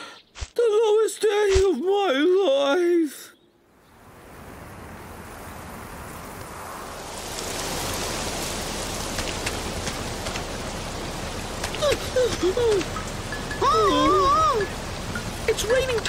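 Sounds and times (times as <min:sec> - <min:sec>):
rain falling: 0:01.3 - 0:16.0.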